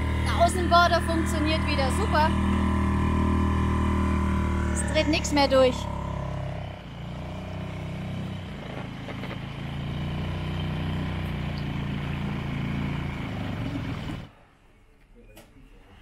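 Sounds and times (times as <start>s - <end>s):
small outboard motor running: 0.0s - 14.3s.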